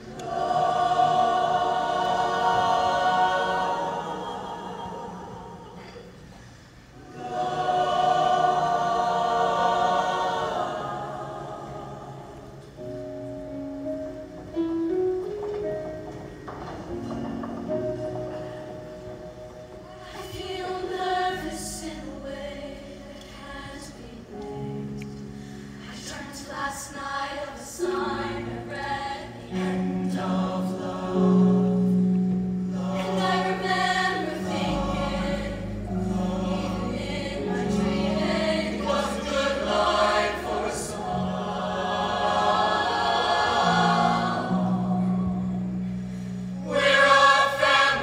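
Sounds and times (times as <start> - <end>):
choir singing in parts: 0.0 - 13.0, 17.2 - 25.0, 25.8 - 48.0.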